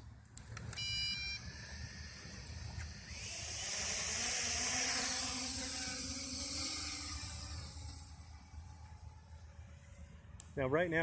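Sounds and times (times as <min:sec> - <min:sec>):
quadcopter motors whirring: 0:00.3 - 0:11.0.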